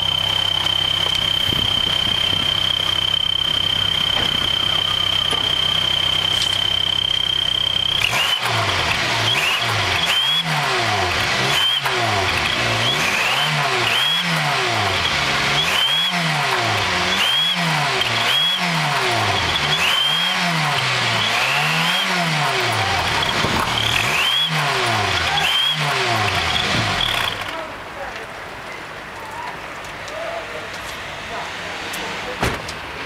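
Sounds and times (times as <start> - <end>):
high exhaust whistle: 0.0 - 27.5
car engine revving: 0.0 - 27.7.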